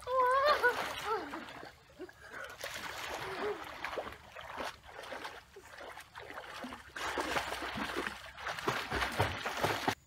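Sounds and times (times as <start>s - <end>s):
water splashing from wading: 0.0s - 10.0s.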